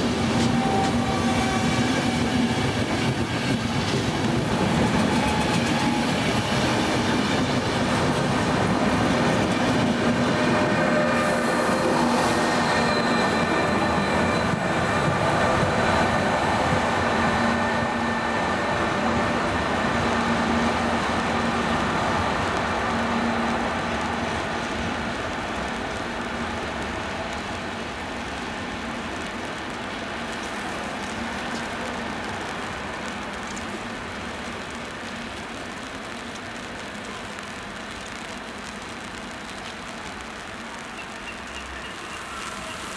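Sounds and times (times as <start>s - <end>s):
train rolling: 0.0s - 42.9s.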